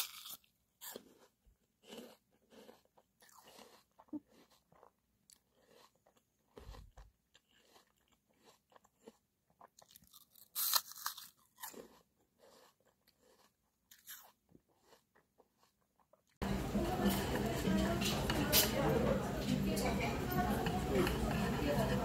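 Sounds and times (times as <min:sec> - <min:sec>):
person chewing crisp apple: 0:00.0 - 0:18.7.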